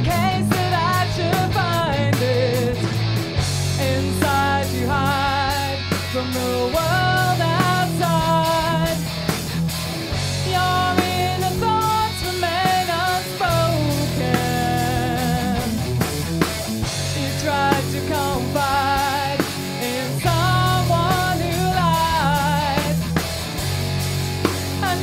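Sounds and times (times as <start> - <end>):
rock band music: 0.0 - 25.0.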